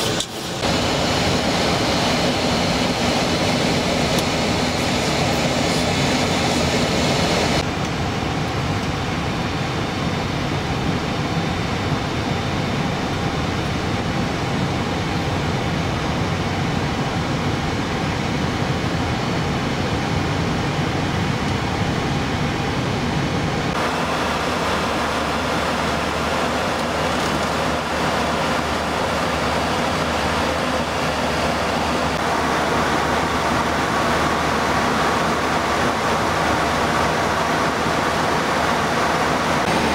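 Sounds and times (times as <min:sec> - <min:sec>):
jet cockpit airflow and engine drone: 0:00.0 - 0:39.9.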